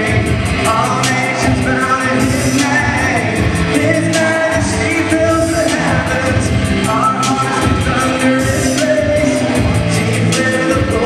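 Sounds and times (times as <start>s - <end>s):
drum and cymbal beat: 0.0s - 11.0s
live band playing: 0.0s - 11.0s
person singing: 0.0s - 11.0s.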